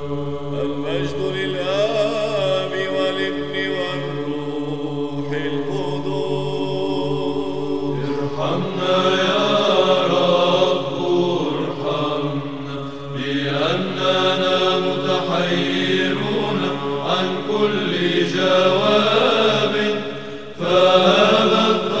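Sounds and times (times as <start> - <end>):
slow vocal chanting: 0.0 - 22.0.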